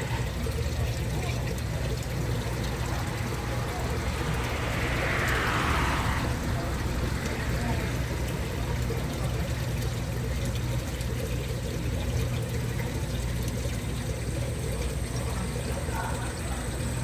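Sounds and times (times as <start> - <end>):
water pouring: 0.0 - 17.0.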